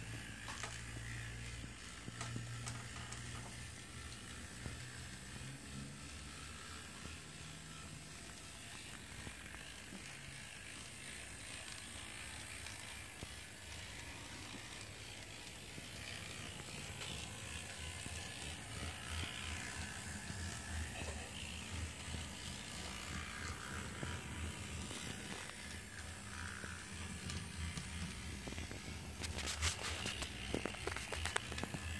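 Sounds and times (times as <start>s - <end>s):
model locomotive whirring on track: 0.0s - 31.9s.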